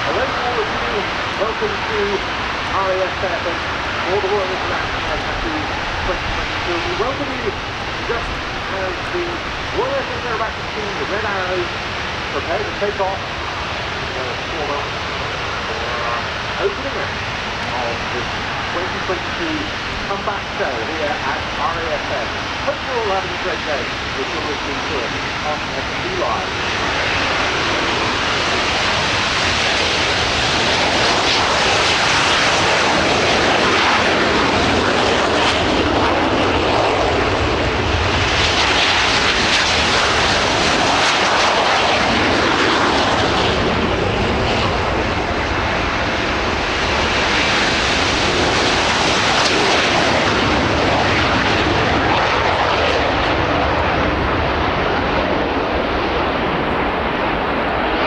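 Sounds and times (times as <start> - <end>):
jet aircraft engines running: 0.0 - 58.0.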